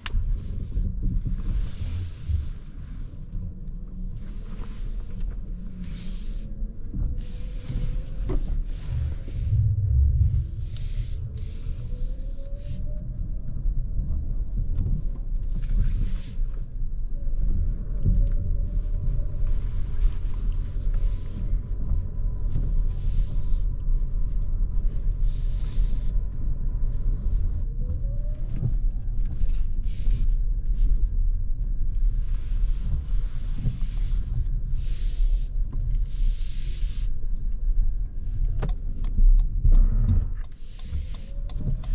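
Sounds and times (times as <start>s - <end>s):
road rumble: 0.0s - 41.9s.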